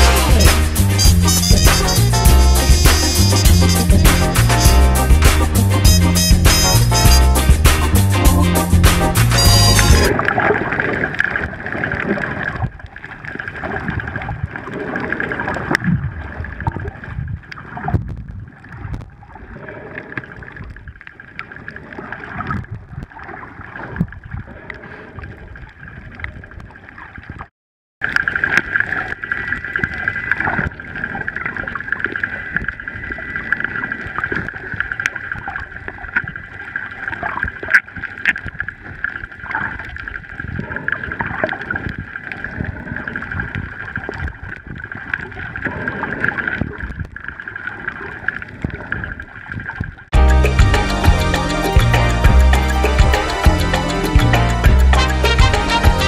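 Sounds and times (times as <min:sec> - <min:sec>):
underwater rushing and gurgling: 0:07.9 - 0:56.0.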